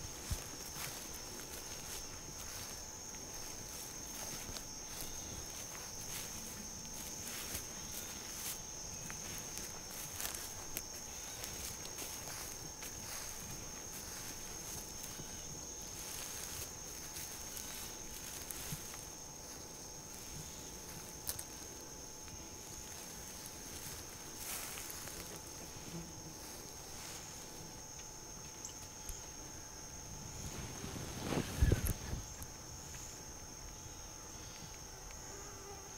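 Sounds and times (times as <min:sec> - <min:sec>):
footsteps in grass: 0:00.0 - 0:33.2
high-pitched insect chorus: 0:00.0 - 0:35.9.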